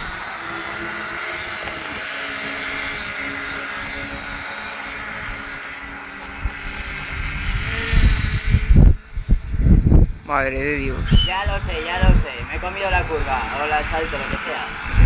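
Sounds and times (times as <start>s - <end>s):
toy car motor drone: 0.0s - 15.0s.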